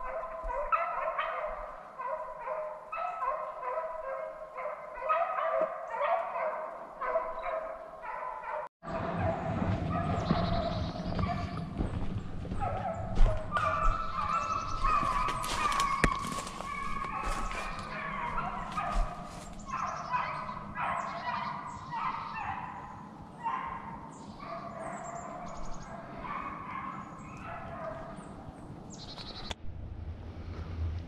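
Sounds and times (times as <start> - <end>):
hounds baying: 0.0 - 28.5.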